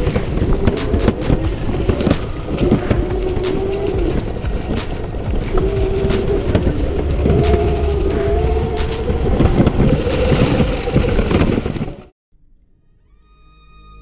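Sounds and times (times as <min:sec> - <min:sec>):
bike rattling over rough ground: 0:00.0 - 0:12.1
rushing wind noise: 0:00.0 - 0:12.1.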